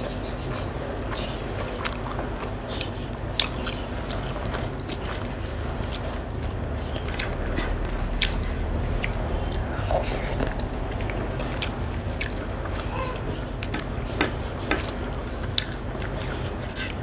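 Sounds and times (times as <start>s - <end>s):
steady low hum: 0.0s - 17.0s
mouth chewing food: 0.3s - 17.0s.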